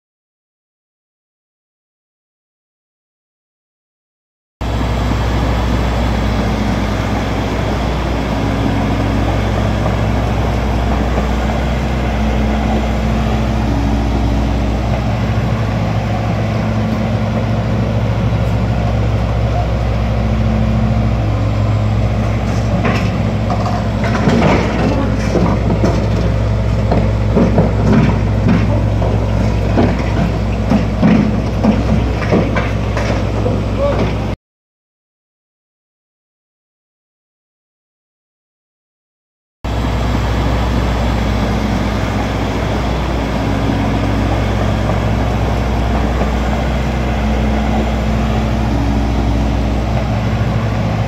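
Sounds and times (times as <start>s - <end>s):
bulldozer diesel engine running: 4.6s - 34.4s, 39.7s - 51.0s
steel tracks clanking: 4.6s - 34.4s, 39.7s - 51.0s.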